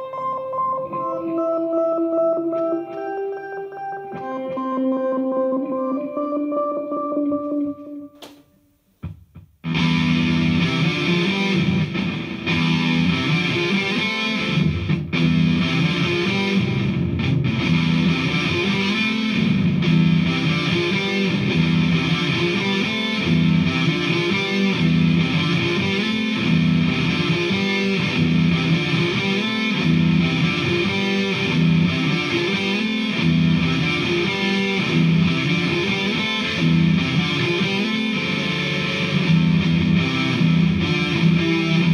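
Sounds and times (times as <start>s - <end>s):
distorted electric guitar riffing: 0.0s - 41.9s.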